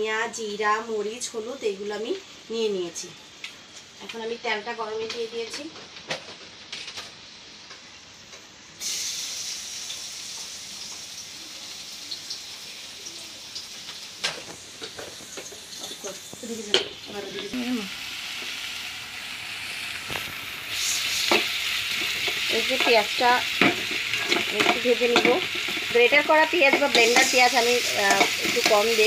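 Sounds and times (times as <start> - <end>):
onions sizzling in oil: 0.0 - 29.0.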